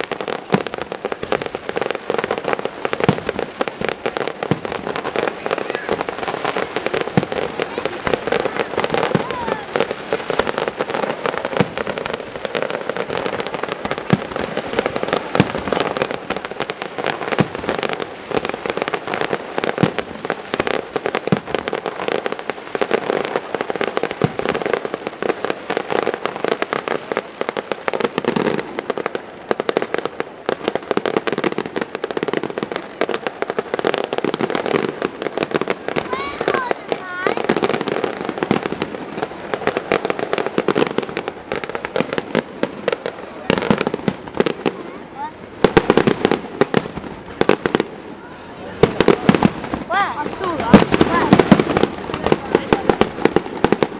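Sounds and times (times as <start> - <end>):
fireworks crackling: 0.0 - 53.9
loud firework bangs: 0.0 - 53.9.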